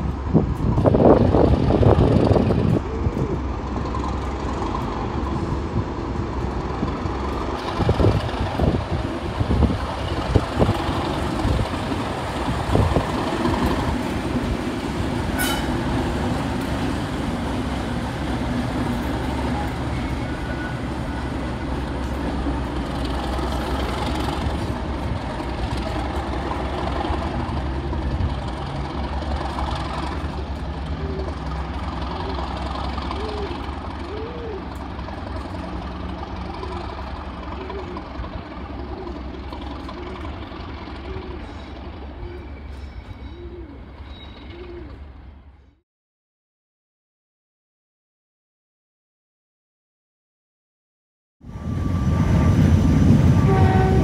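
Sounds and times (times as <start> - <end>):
train rumbling: 0.0 - 45.8, 51.4 - 54.0.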